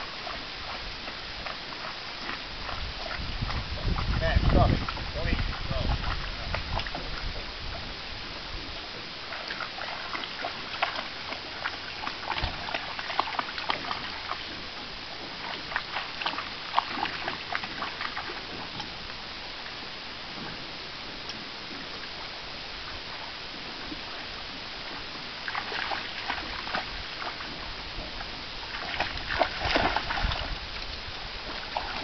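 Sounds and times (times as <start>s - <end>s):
dog paws splashing water: 0.0s - 32.0s.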